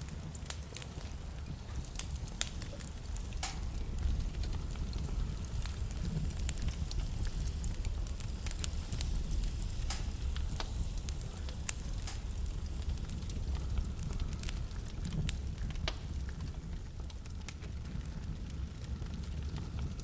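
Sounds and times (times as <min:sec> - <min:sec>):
flames rumbling: 0:00.0 - 0:20.0
logs crackling and popping: 0:00.0 - 0:20.0.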